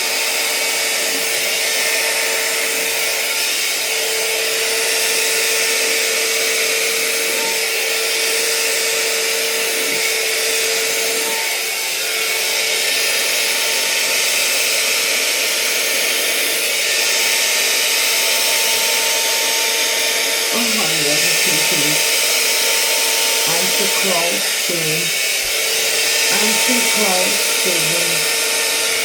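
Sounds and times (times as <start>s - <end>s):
hairdryer blowing: 0.0s - 29.0s.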